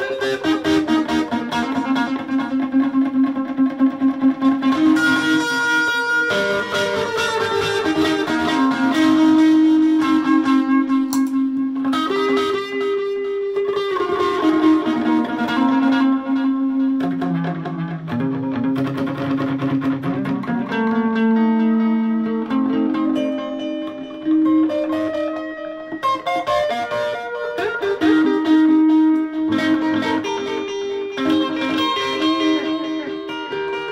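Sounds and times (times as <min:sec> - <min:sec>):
electric guitar sustained notes: 0:00.0 - 0:33.9.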